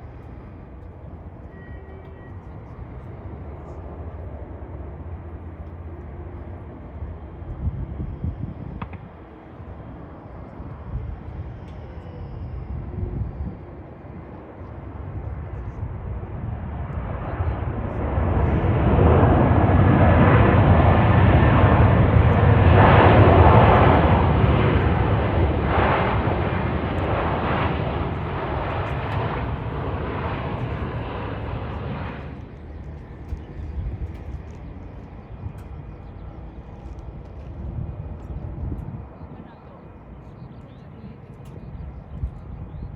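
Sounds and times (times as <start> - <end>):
jet airliner roaring past: 0.0 - 42.9.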